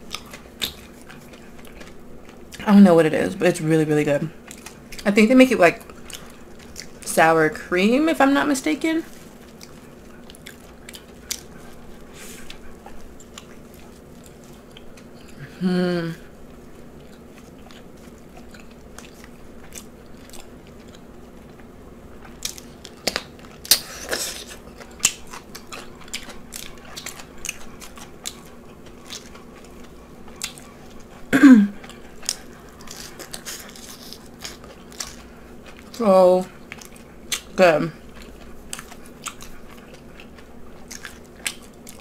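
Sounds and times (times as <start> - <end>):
chewing with crisp crunches: 0.0 - 15.6, 16.2 - 42.0.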